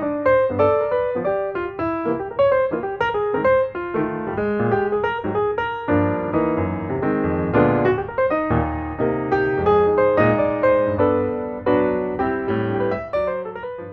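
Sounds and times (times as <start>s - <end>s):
lively piano music: 0.0s - 13.9s.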